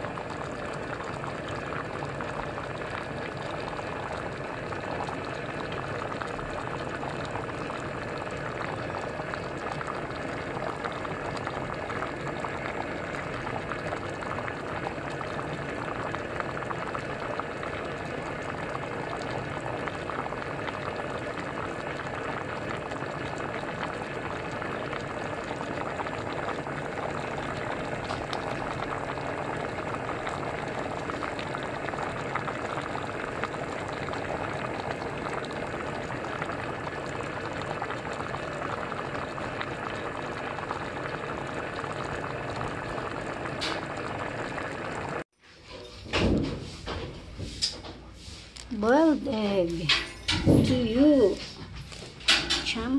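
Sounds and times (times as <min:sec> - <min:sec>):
porridge bubbling with small pops: 0:00.0 - 0:45.4, 0:48.5 - 0:52.9.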